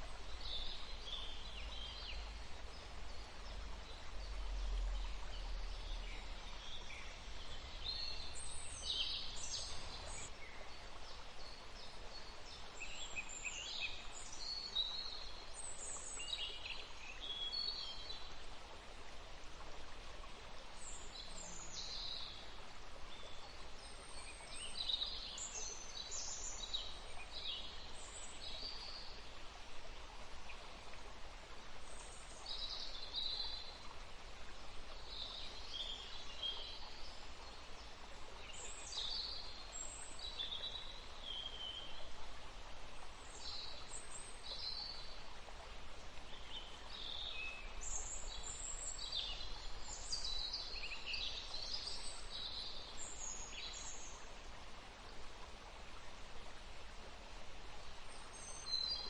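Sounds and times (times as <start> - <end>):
outdoor background hiss: 0.0 - 59.0
songbirds chirping: 0.0 - 59.0.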